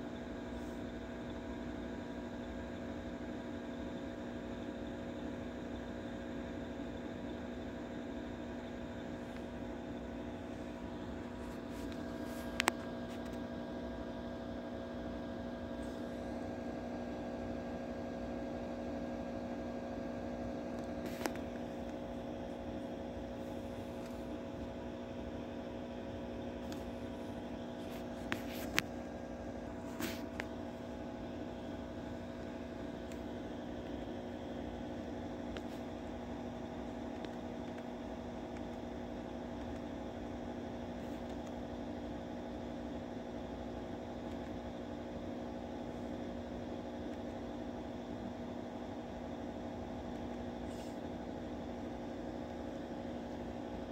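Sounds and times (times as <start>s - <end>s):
equipment humming: 0.0s - 53.9s.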